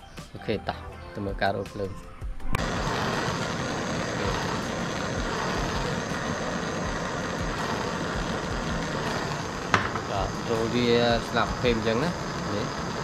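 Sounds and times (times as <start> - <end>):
gas torch hissing: 2.5 - 13.0.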